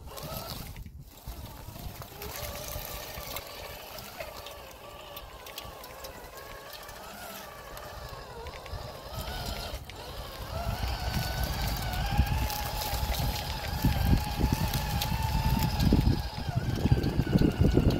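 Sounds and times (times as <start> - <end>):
toy car motor whining: 0.0 - 17.9.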